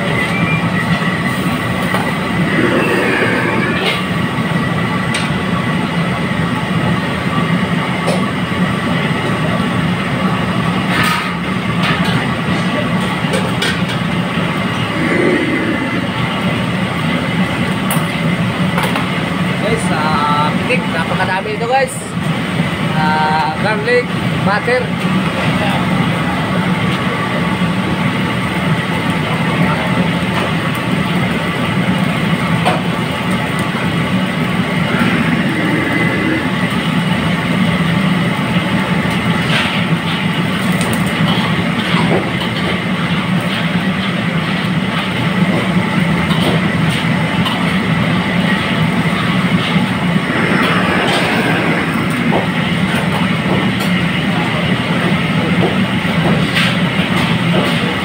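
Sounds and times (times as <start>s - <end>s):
gas burner and exhaust rumble: 0.0s - 58.0s.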